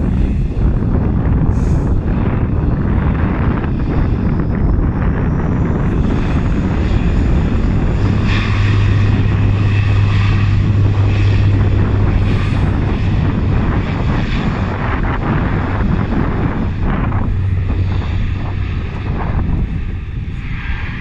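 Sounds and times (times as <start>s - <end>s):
engine rush: 0.0s - 21.0s
propeller drone: 0.0s - 21.0s.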